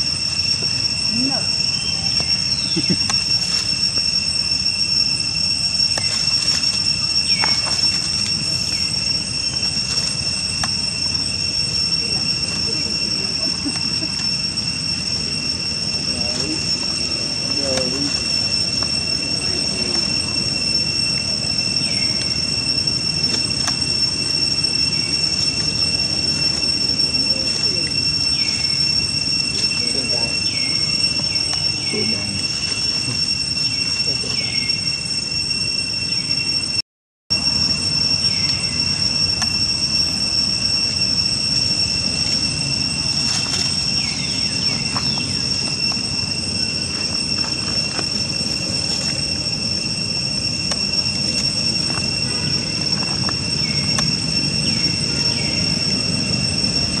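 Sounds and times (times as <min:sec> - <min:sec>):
high-pitched insect drone: 0:00.0 - 0:57.0
high-pitched whine: 0:00.0 - 0:57.0.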